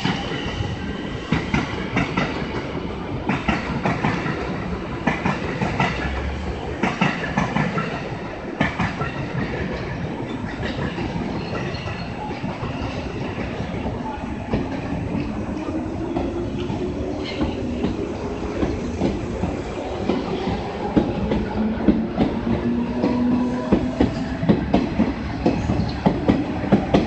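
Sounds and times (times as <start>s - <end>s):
electric train rumbling past: 0.0s - 27.0s.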